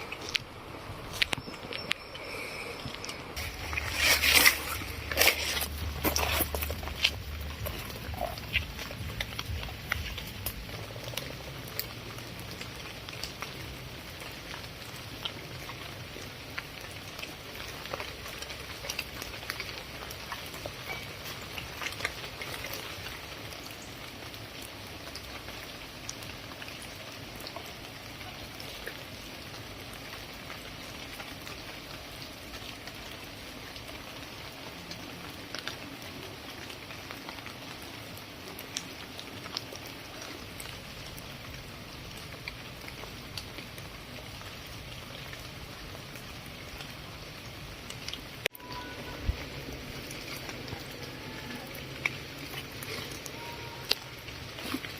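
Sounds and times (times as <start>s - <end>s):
rain drops ticking on hard surface: 0.0s - 54.9s
rain hiss: 0.0s - 54.9s.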